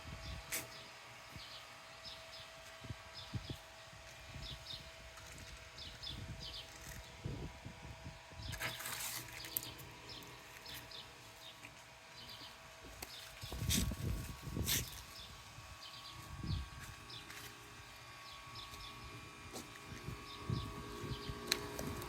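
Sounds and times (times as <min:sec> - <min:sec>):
small birds chirping: 0:00.2 - 0:07.4, 0:08.2 - 0:22.0.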